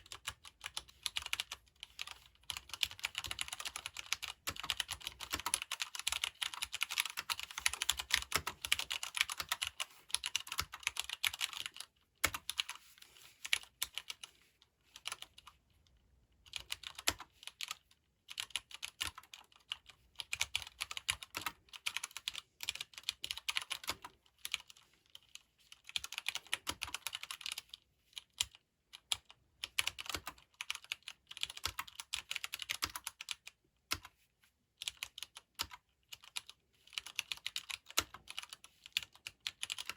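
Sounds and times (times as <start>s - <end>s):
mechanical keyboard typing: 0.0s - 12.8s, 13.4s - 14.3s, 16.4s - 34.1s, 34.8s - 39.9s.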